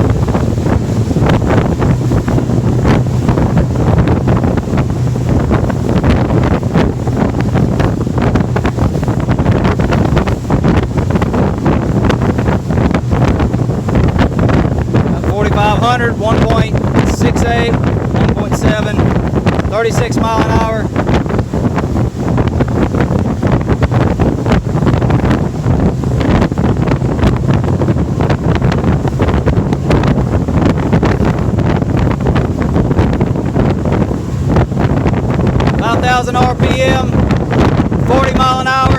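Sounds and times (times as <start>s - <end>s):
outboard engines droning: 0.0s - 38.9s
rushing water: 0.0s - 38.9s
wind buffeting microphone: 0.0s - 38.9s.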